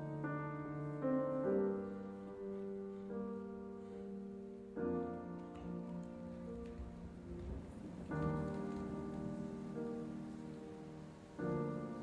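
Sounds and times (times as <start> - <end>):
slow quiet piano music: 0.0 - 12.0.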